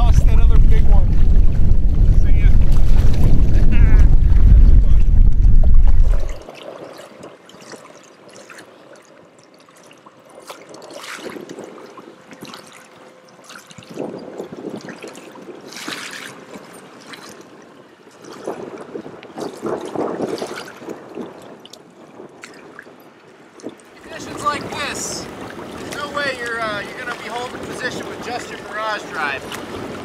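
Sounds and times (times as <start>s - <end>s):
waves lapping against kayak: 0.0s - 30.0s.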